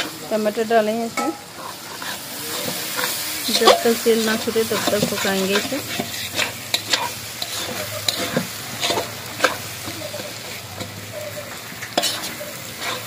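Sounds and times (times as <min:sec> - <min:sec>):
sauce sizzling in oil: 0:00.0 - 0:13.0
spoon scraping metal pan: 0:01.1 - 0:13.0.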